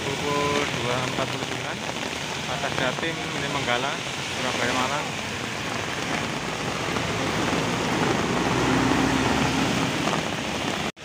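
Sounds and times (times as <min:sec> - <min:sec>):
bus passing on wet road: 0:00.0 - 0:11.0
heavy rain pouring: 0:00.0 - 0:11.0.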